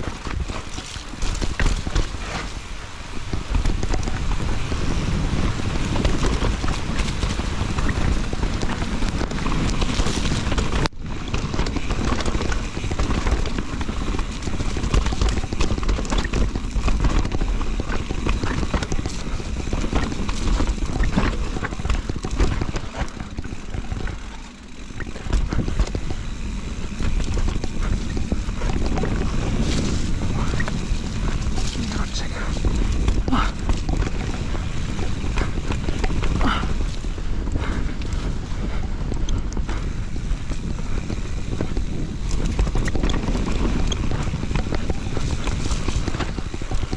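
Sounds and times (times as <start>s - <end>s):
bike rattling over bumps: 0.0s - 46.9s
tyres on dirt: 0.0s - 46.9s
wind buffeting microphone: 0.0s - 46.9s.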